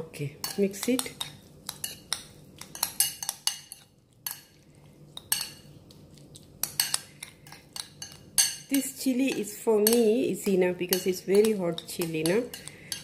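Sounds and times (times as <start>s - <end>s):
metal spoon scraping ceramic bowl: 0.4s - 4.5s, 6.6s - 13.0s.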